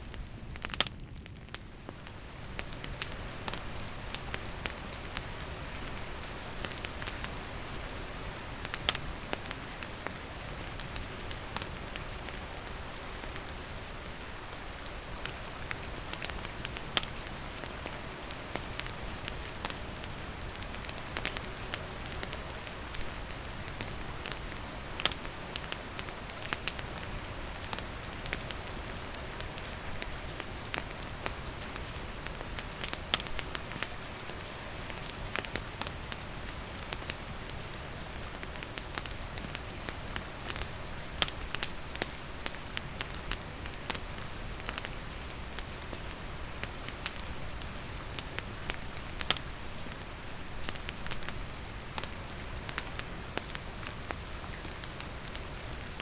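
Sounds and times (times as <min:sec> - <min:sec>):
steady rain falling: 0:00.0 - 0:56.0
campfire crackling and popping: 0:00.1 - 0:56.0.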